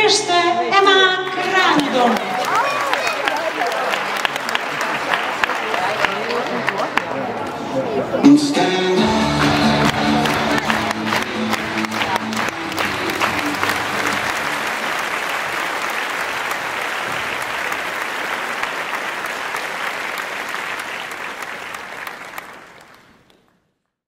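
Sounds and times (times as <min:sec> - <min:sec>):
audience applauding: 0:01.2 - 0:07.6, 0:09.0 - 0:23.8.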